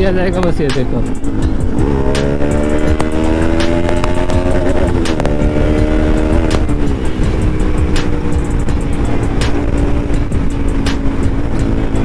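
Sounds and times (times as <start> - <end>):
gear upshifts: 0.0 - 12.0
motorcycle engine accelerating: 0.0 - 12.0.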